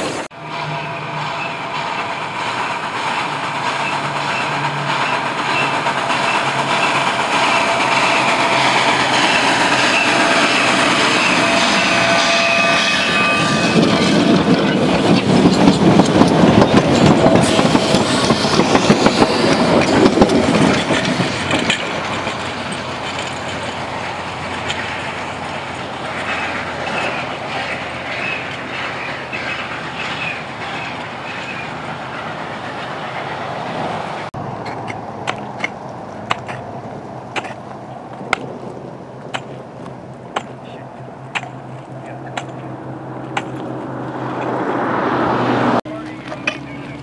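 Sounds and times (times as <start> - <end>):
steam train rumbling past: 0.0 - 37.3, 38.2 - 47.0.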